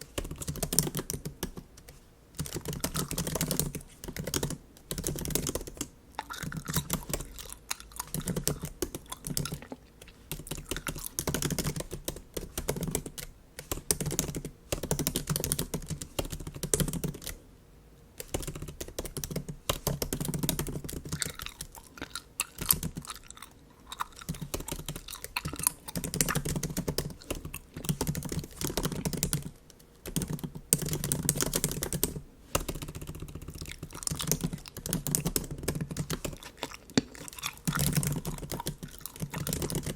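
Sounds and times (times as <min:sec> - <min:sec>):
laptop keyboard typing: 0:00.0 - 0:09.7, 0:10.3 - 0:17.4, 0:18.2 - 0:39.9.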